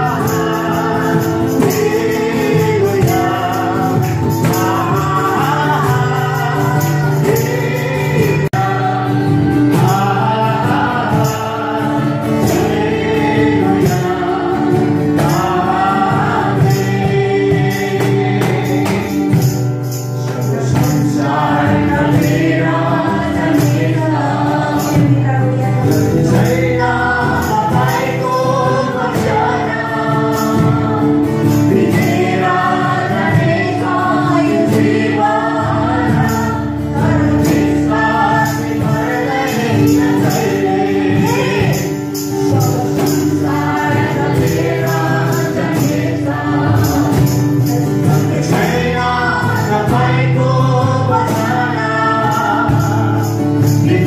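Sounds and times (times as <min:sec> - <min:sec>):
acoustic guitar: 0:00.0 - 0:54.0
group singing worship song: 0:00.0 - 0:54.0
tambourine shaking: 0:00.0 - 0:54.0.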